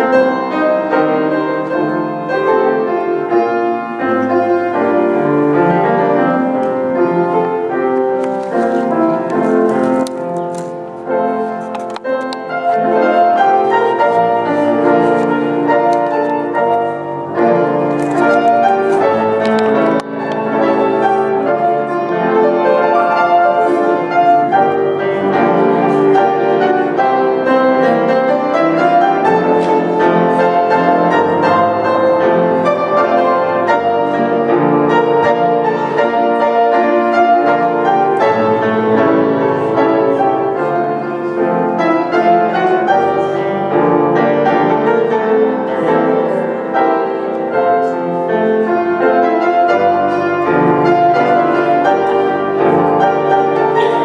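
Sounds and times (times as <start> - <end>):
grand piano playing chords: 0.0 - 54.0.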